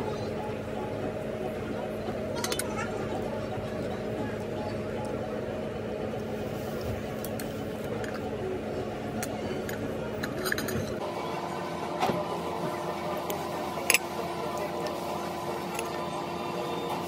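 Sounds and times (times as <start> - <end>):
restaurant background noise: 0.0 - 17.0.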